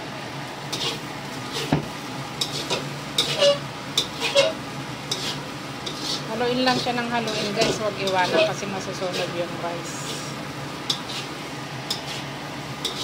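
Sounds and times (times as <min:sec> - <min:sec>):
frying sizzle: 0:00.0 - 0:13.0
metal spatula scraping a wok: 0:00.7 - 0:01.8, 0:02.4 - 0:13.0.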